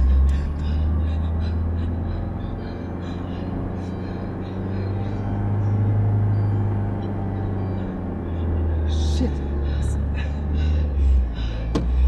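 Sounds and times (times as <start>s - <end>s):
car engine and road noise drone: 0.0s - 12.0s.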